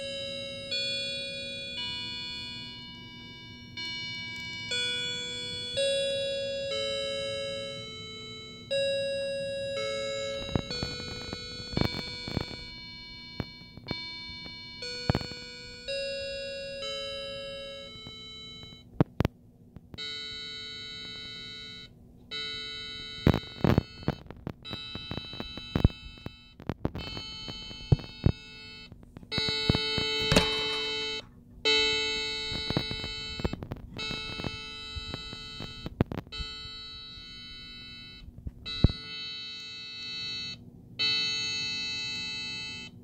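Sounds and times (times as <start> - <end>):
electronic clock chime melody: 0.0 - 18.9, 20.0 - 43.0.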